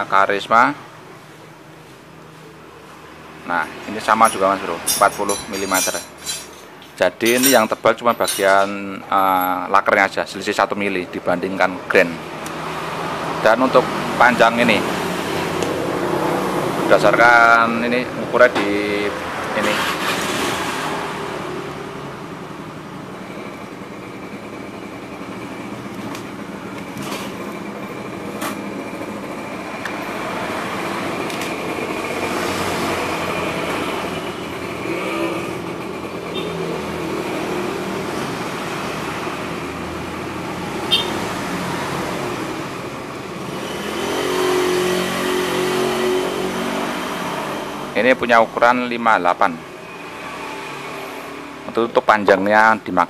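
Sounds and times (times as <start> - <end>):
background traffic noise: 0.0 - 53.0
vehicle engine: 1.0 - 9.7, 10.5 - 51.8.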